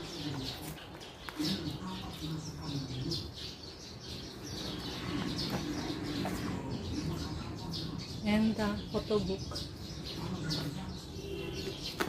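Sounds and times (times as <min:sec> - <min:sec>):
birds chirping: 0:00.0 - 0:12.0
faint voices: 0:00.0 - 0:12.0.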